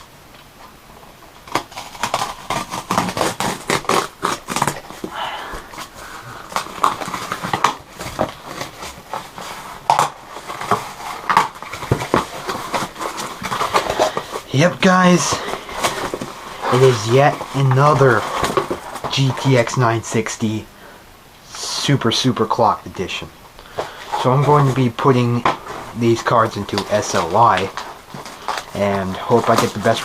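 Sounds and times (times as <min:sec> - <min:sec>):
tape squeaking: 0:01.3 - 0:20.4, 0:23.6 - 0:30.0
cardboard box crinkling and scraping: 0:01.4 - 0:20.6, 0:23.7 - 0:30.0.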